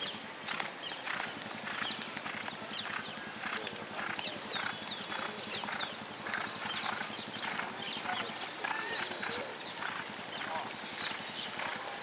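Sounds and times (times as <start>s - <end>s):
horses trotting: 0.0s - 12.0s.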